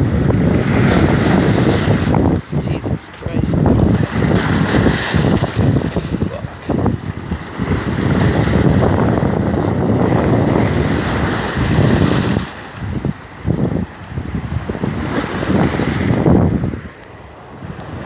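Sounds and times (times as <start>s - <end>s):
waves breaking on shoreline: 0.0s - 18.0s
wind buffeting microphone: 0.0s - 18.0s.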